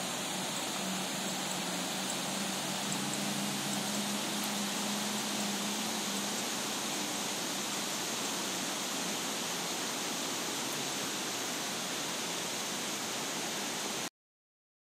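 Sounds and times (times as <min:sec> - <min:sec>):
steady rushing noise: 0:00.0 - 0:12.2.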